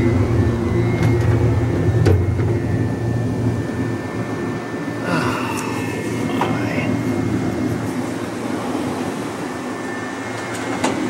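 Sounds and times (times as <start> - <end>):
held hums: 0.0 - 10.7
train rumbling on track: 0.0 - 11.0.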